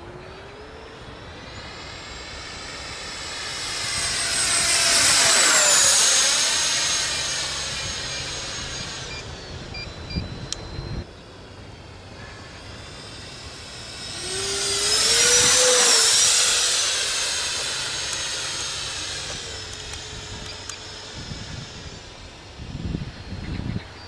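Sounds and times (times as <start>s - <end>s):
model jet fan whine: 0.0s - 24.0s.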